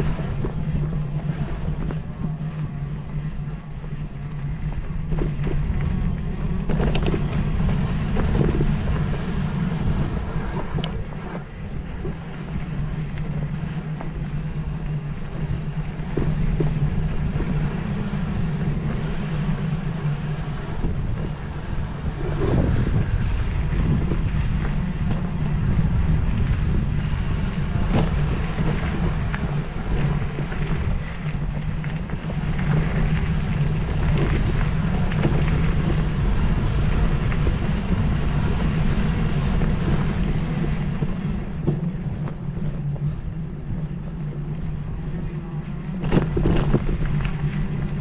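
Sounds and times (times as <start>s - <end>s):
motor running: 0.0s - 45.4s
wind noise on microphone: 0.0s - 48.0s.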